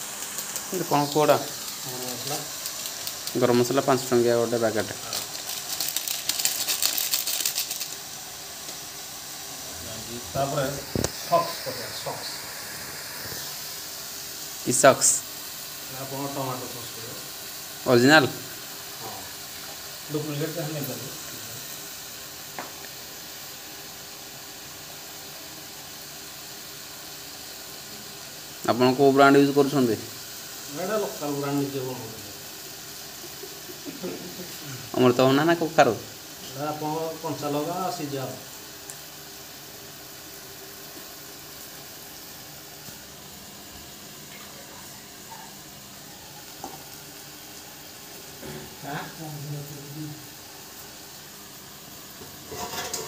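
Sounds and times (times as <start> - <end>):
food sizzling in a wok: 0.0 - 53.0.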